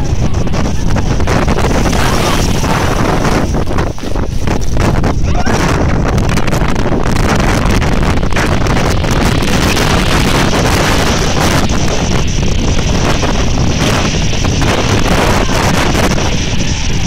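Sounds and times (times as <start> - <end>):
strong wind buffeting microphone: 0.0 - 17.0
surf breaking on shingle beach: 0.0 - 17.0.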